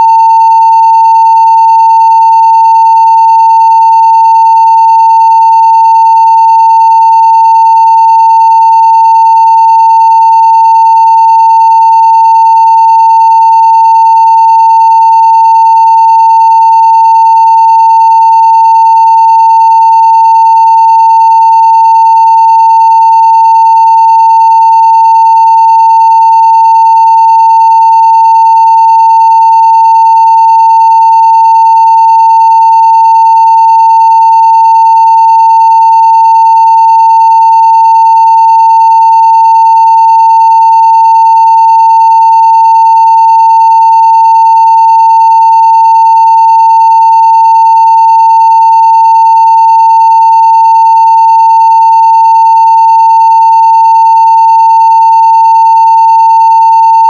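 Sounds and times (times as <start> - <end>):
sine wave test tone: 0.0 - 57.0.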